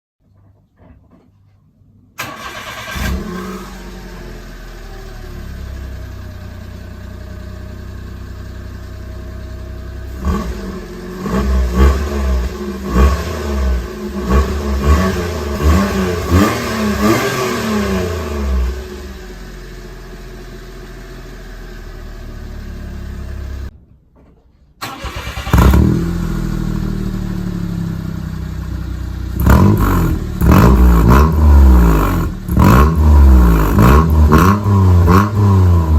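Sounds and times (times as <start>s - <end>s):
engine exhaust idling and revving: 2.5s - 23.7s, 24.9s - 35.9s.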